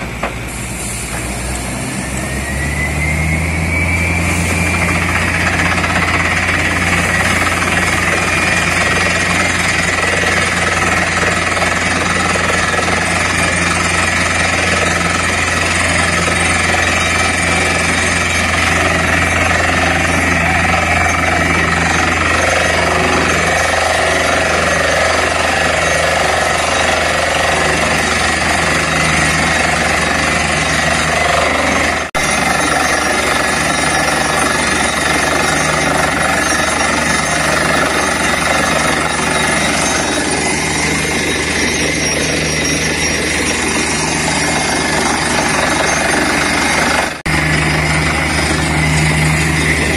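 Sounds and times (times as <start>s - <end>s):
drilling rig hammering: 0.0s - 49.9s.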